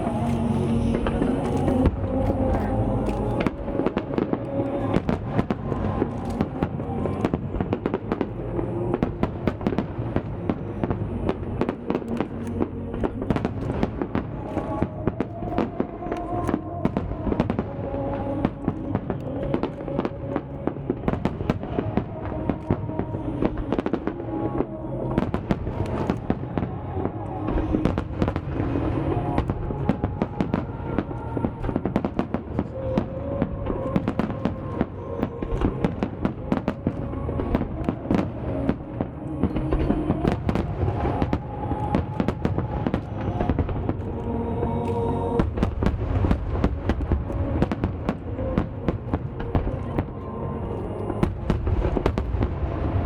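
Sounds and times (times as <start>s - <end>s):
fireworks bursting with booms: 0.0s - 53.0s
music over loudspeakers: 0.0s - 53.0s.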